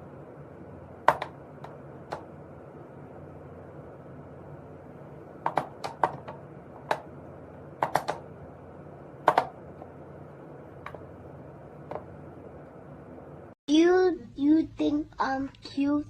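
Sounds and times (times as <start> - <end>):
faint steady background noise: 0.0 - 16.0.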